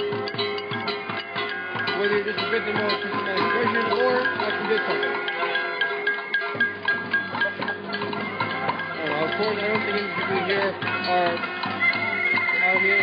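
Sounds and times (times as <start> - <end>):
musical instruments and noisemakers: 0.0 - 13.0
voices: 0.0 - 13.0.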